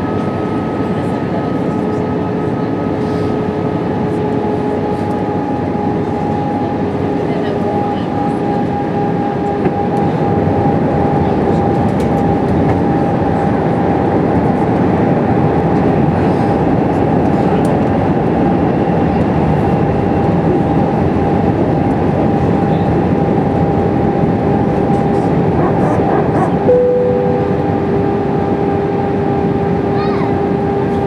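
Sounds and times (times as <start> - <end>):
jet engine whine: 0.0 - 31.0.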